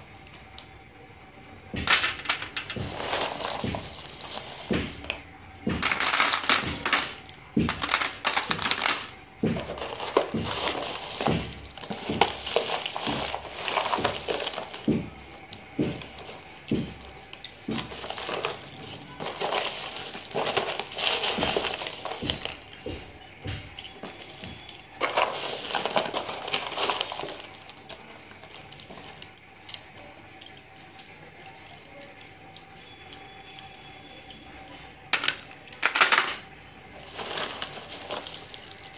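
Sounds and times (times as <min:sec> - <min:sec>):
slate pencils rattling and clinking: 0:01.8 - 0:38.9.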